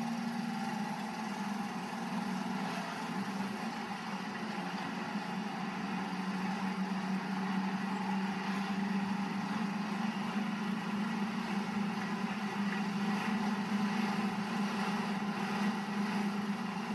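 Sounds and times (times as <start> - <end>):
road noise: 0.0 - 16.9
truck engine droning: 0.0 - 16.9.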